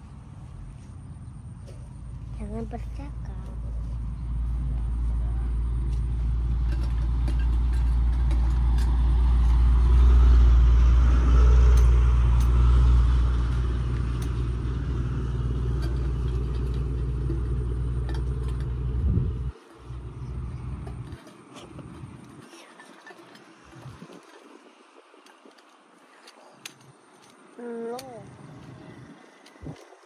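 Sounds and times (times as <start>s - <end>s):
aircraft passing overhead: 0.0s - 30.0s.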